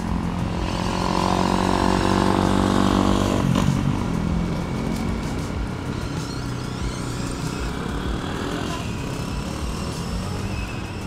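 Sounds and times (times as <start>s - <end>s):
dirt bike engine accelerating: 0.0s - 11.0s.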